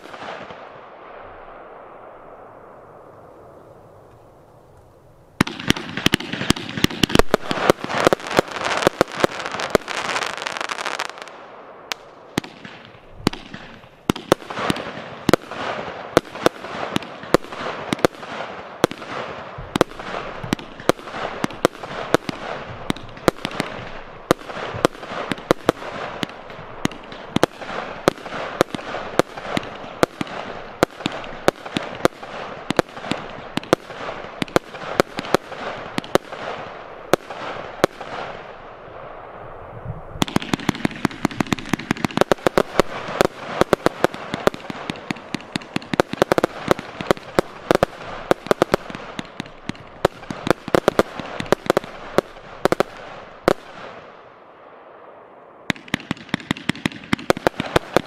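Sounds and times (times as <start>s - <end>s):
crackling firework stars: 0.0s - 58.0s
firework battery firing shots: 5.4s - 11.3s, 11.9s - 38.6s, 40.2s - 54.1s, 55.7s - 58.0s.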